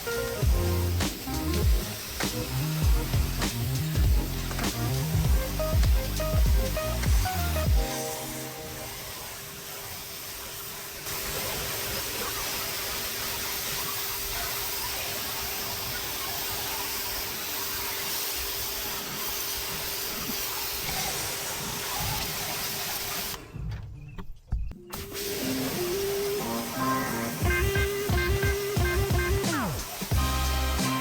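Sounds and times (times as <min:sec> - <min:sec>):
pressure washer spraying: 0:00.0 - 0:23.5, 0:25.0 - 0:31.0.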